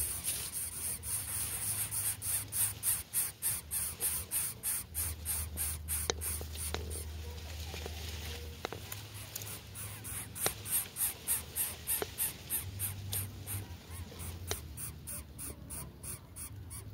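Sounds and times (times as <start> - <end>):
chicks hissing begging calls: 0.0 - 7.1, 9.5 - 16.9.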